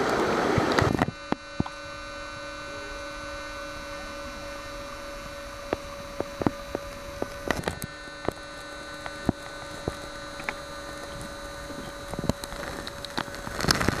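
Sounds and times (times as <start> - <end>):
electrical hum with high whine: 0.0 - 14.0.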